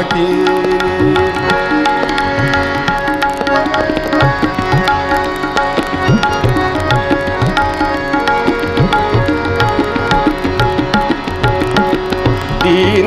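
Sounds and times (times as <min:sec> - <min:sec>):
harmonium melody: 0:00.0 - 0:13.0
tabla rhythm: 0:00.0 - 0:13.0
violin melody: 0:00.0 - 0:13.0.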